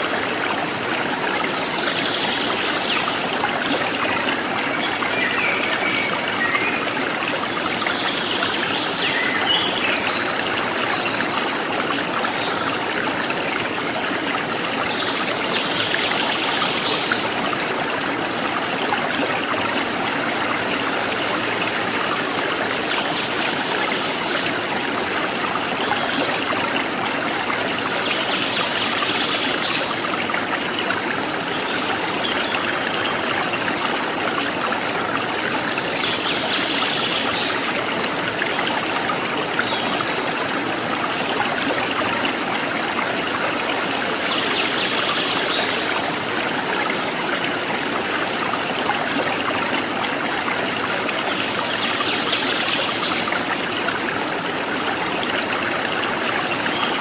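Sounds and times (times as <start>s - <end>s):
stream trickling and splashing: 0.0s - 57.0s.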